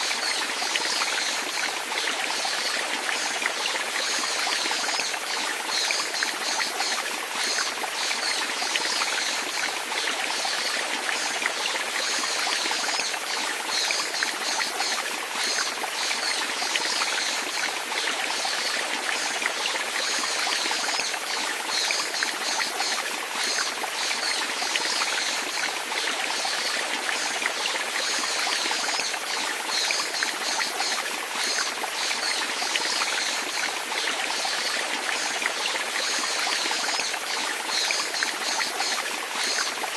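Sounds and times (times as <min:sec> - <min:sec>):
running water splashing and trickling: 0:00.0 - 0:39.9.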